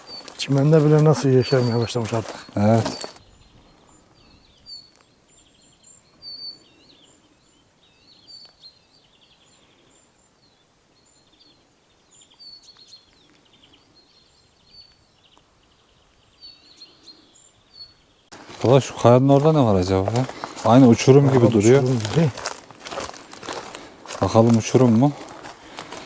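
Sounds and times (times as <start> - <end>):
small songbirds chirping and trilling: 0.0 - 26.0.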